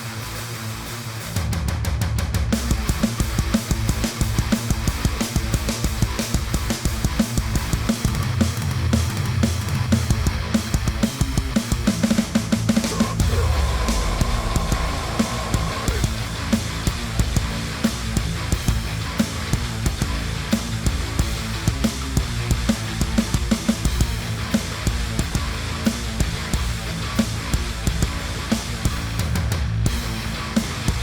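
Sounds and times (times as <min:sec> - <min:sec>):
heavy rock music: 0:00.0 - 0:31.0
drum kit playing: 0:01.2 - 0:31.0.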